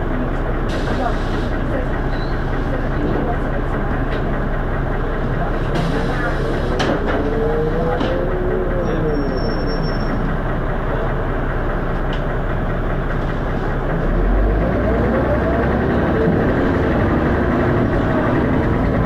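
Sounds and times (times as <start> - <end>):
bus diesel engine rumbling: 0.0 - 19.0.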